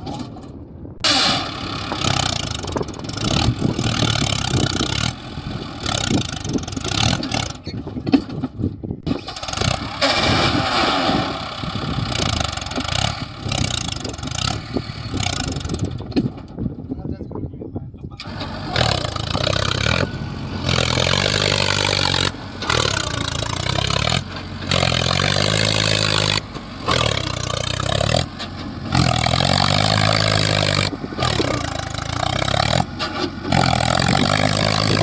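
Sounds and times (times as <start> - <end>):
heavy diesel machinery running hard: 1.0 - 16.6, 18.2 - 35.0.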